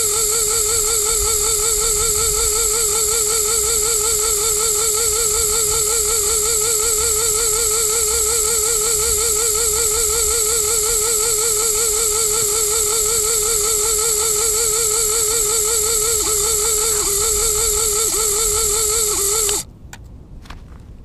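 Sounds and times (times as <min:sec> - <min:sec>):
warbling electronic whine: 0:00.0 - 0:19.6.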